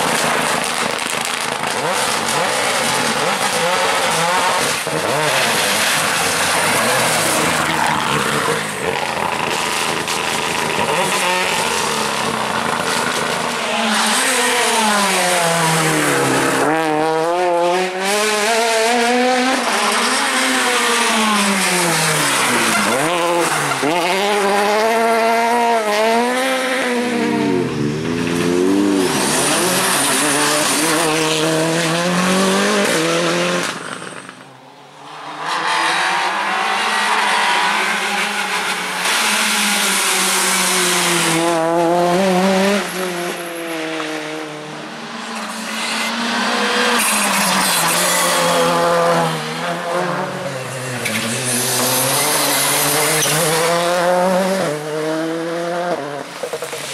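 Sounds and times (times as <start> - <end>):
rally car engines revving hard: 0.0 - 56.9.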